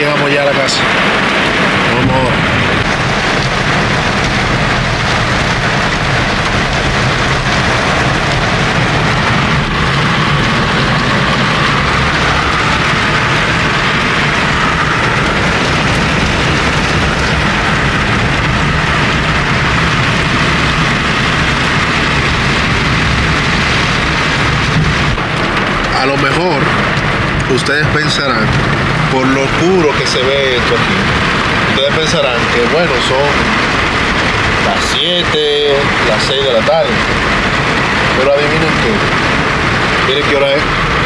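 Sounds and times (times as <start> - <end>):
car engine and road rumble: 0.0 - 41.0
rain on car roof: 0.0 - 41.0.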